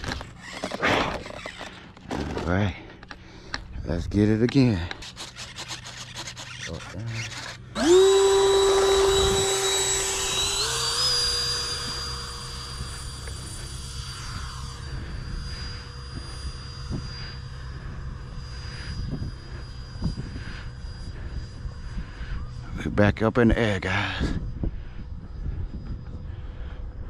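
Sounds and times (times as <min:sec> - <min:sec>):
jet fan high-pitched whine: 0:00.0 - 0:27.0.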